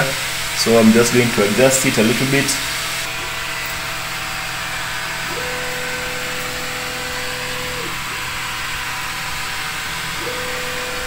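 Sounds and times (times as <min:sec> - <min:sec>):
steady background hum: 0:00.0 - 0:11.0
stepper motors whining: 0:00.0 - 0:11.0.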